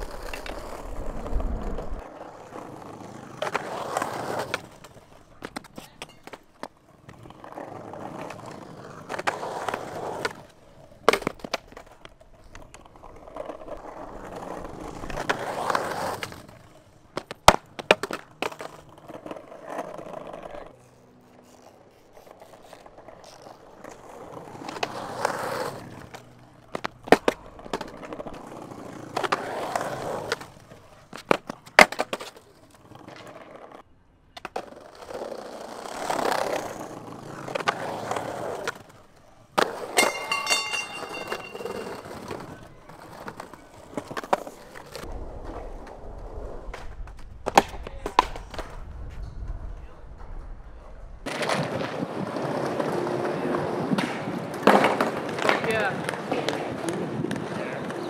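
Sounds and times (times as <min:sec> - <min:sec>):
skateboard popping and landing: 0:00.0 - 0:20.6, 0:22.2 - 0:33.8, 0:34.4 - 0:49.2, 0:51.2 - 0:58.0
skateboard wheels rolling on pavement: 0:00.0 - 0:58.0.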